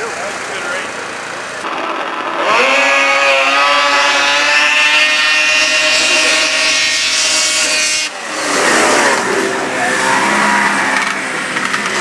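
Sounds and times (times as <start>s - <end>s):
snowmobile engines revving high: 0.0s - 12.0s.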